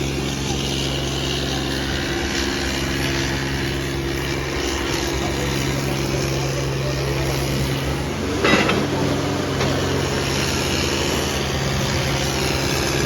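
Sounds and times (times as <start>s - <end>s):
tractor engines at high throttle: 0.0s - 13.0s.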